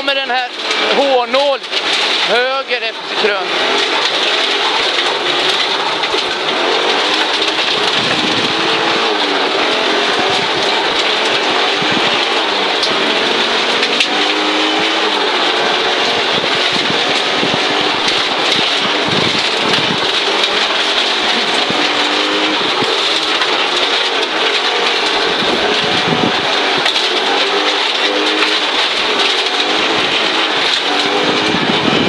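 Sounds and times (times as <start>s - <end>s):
rally car engine revving: 0.0s - 32.0s
gravel spraying against underbody: 0.1s - 32.0s.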